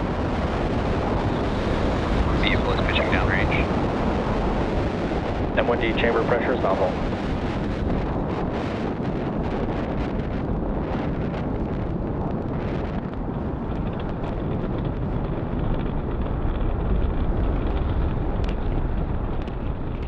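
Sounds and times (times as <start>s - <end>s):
rocket engines rumbling: 0.0s - 20.0s.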